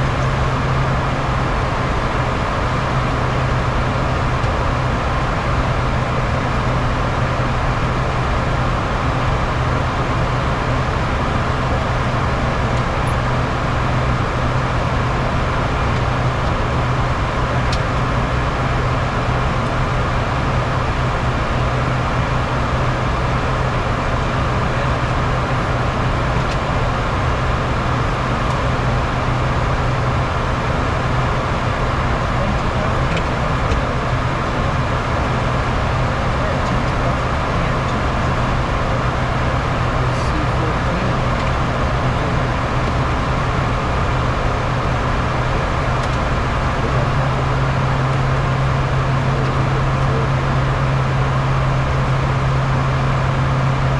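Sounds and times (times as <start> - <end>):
jet engines humming: 0.0 - 53.9.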